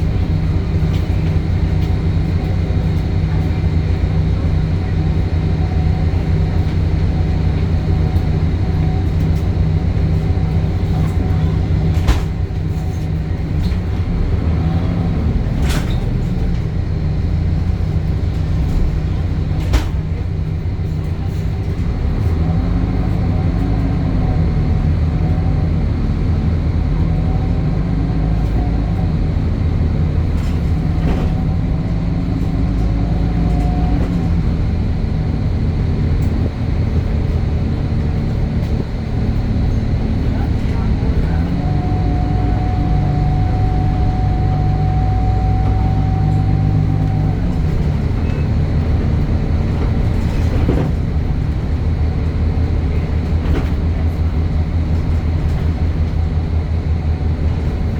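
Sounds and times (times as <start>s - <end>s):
bus diesel engine drone: 0.0s - 57.9s.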